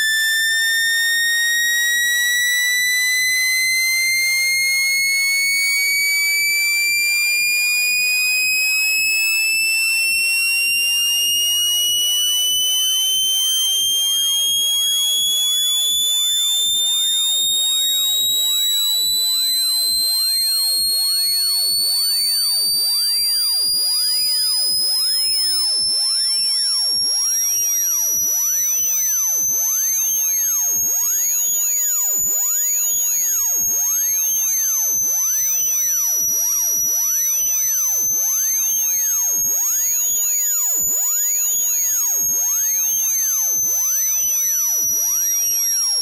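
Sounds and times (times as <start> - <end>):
high-pitched electronic whine: 0.0 - 46.0.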